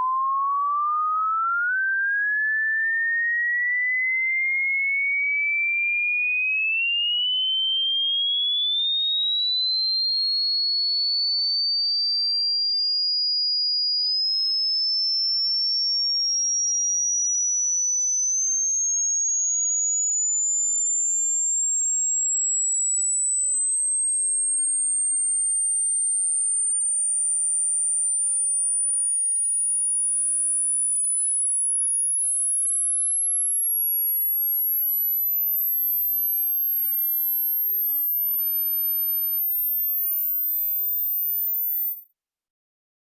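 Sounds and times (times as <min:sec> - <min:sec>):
rising pure sine tone: 0:00.0 - 0:04.4, 0:07.0 - 0:11.6, 0:14.3 - 0:42.0.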